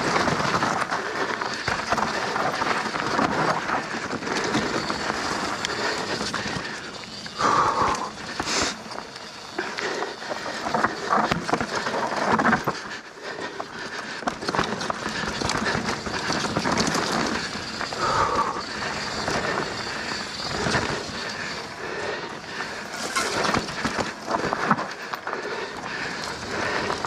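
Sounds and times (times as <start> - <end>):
bike tyres on dirt and rock: 0.0 - 27.0
chain and frame clatter: 0.0 - 27.0.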